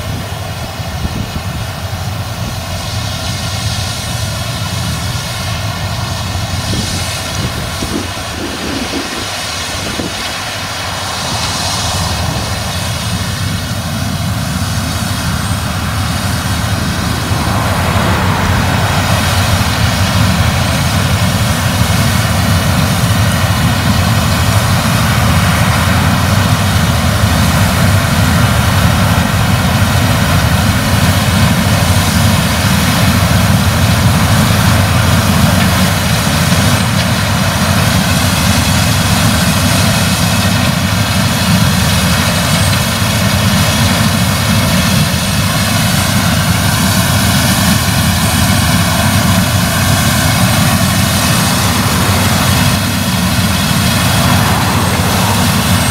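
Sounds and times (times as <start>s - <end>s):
combine harvester engine drone: 0.0s - 55.9s.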